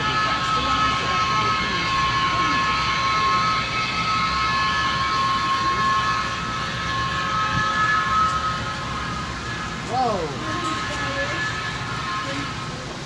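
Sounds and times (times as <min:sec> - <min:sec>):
multi-note steam whistle: 0:00.0 - 0:13.0.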